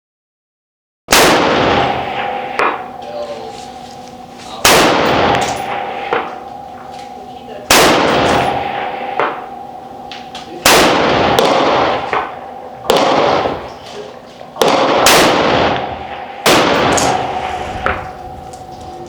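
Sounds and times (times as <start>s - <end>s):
rifle shots echoing: 1.1s - 18.7s.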